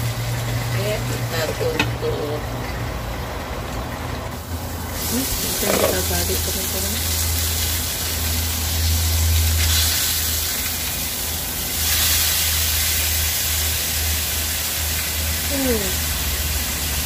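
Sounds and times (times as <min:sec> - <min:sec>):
fish sizzling in a pan: 0:00.0 - 0:03.2, 0:04.3 - 0:17.0.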